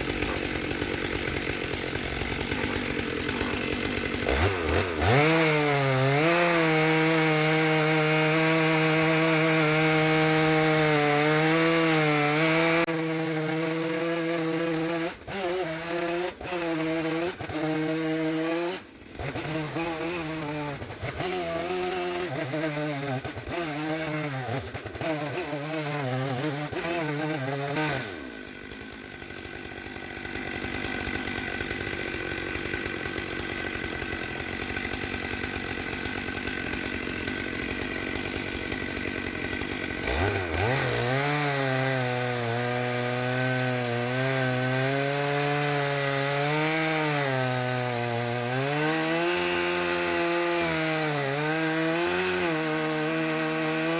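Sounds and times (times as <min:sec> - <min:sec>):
chainsaw cutting log: 0:00.0 - 0:53.9
chainsaw revving: 0:00.0 - 0:53.9.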